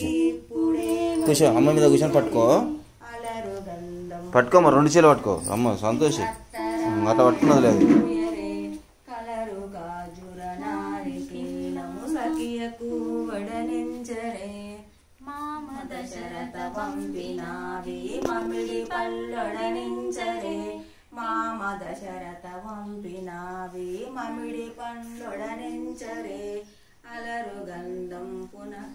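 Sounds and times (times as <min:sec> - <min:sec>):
women singing unaccompanied: 0:00.0 - 0:28.9.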